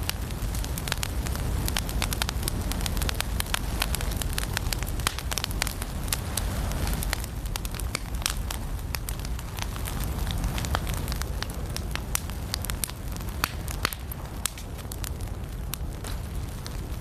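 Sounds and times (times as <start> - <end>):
firewood crackling and popping: 0.0 - 17.0
low fire rumble: 0.0 - 17.0.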